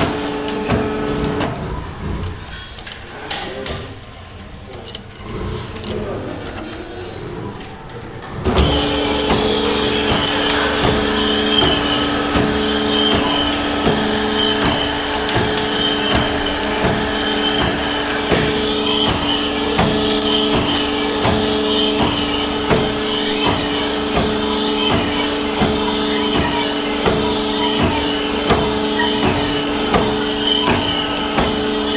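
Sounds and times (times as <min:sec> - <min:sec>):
regular machine clicking: 0:00.0 - 0:31.9
workshop machine humming: 0:00.0 - 0:31.9.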